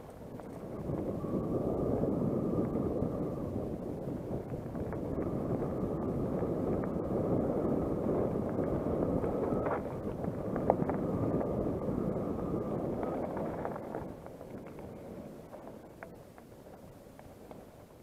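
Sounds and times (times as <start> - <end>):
bike tyres rolling on rocky dirt: 0.0 - 18.0
wind buffeting microphone: 0.0 - 18.0.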